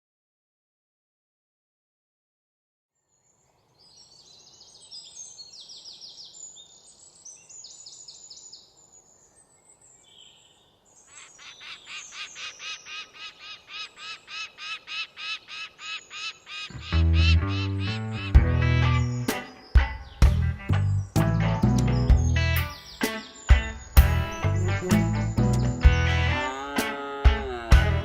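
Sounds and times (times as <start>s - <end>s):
birds twittering and trilling: 3.0s - 27.4s.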